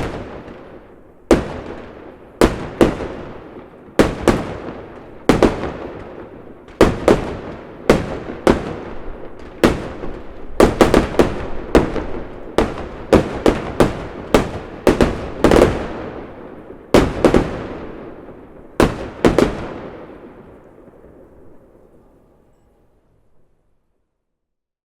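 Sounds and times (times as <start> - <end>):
fireworks banging: 0.0 - 21.3.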